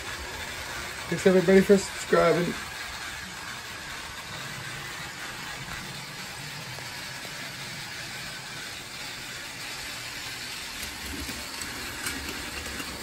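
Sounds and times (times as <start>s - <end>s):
toy train motor whirring: 0.0s - 13.0s.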